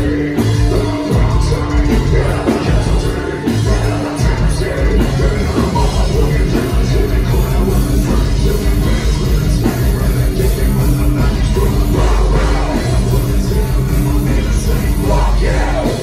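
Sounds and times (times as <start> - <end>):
driving drum beat: 0.0 - 16.0
live heavy metal band: 0.0 - 16.0.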